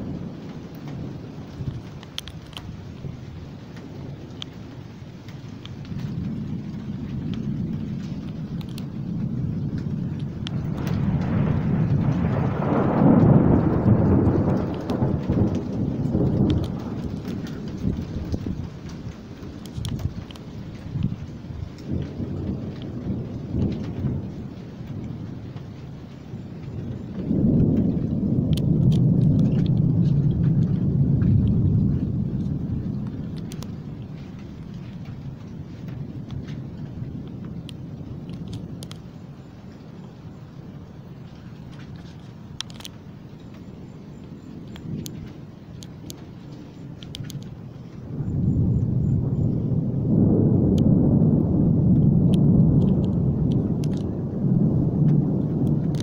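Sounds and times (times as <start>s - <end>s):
raindrop ticks: 0.0s - 56.0s
thunder rumbling: 0.0s - 56.0s.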